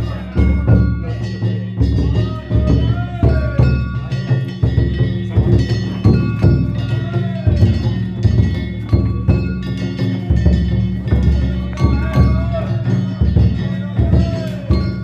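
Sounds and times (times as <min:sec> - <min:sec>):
metal gongs ringing: 0:00.0 - 0:15.0
taiko drum beating: 0:00.0 - 0:15.0.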